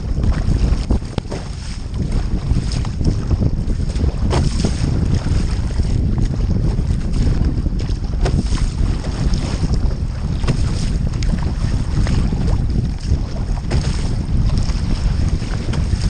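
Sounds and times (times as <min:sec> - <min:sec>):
paddle water splashes: 0:00.0 - 0:16.0
wind buffeting microphone: 0:00.0 - 0:16.0.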